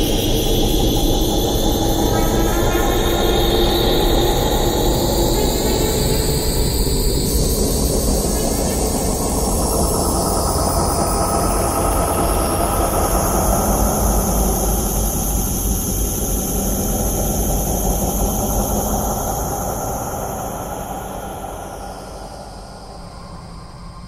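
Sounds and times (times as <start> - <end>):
low rumble drone: 0.0 - 24.0.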